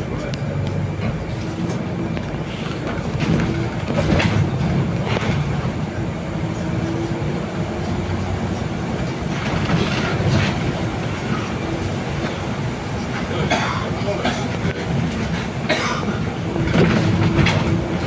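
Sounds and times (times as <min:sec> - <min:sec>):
bus drivetrain hum: 0:00.0 - 0:18.0
tyre noise on wet road: 0:00.0 - 0:18.0.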